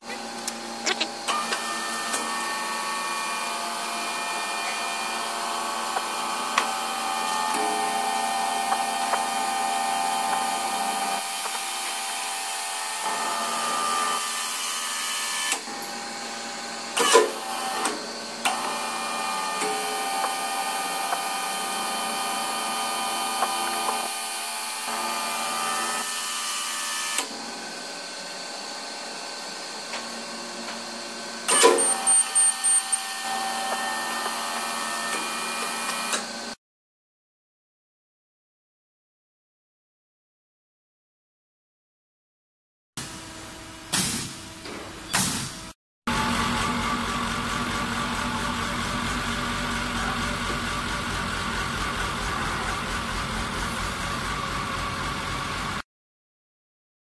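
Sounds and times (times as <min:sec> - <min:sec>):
hydraulic pump motor whining drone: 0:00.0 - 0:36.6, 0:46.1 - 0:55.8.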